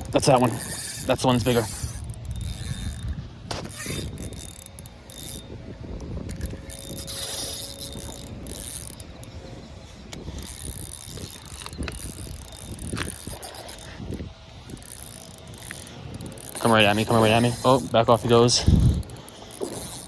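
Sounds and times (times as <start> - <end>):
fishing reel gears ticking: 0.0 - 20.0
sharp reel clicks: 0.0 - 20.0.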